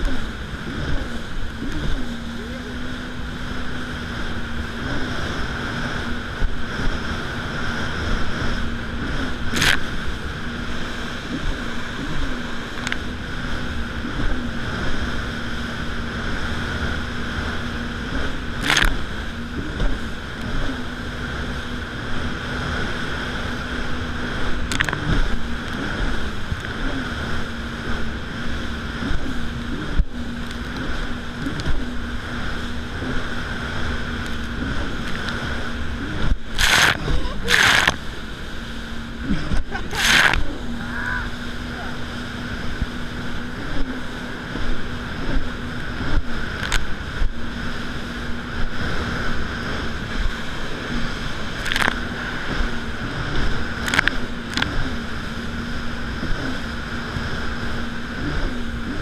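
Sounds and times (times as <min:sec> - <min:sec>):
jet ski engine running: 0:00.0 - 0:59.0
water rushing past hull: 0:00.0 - 0:59.0.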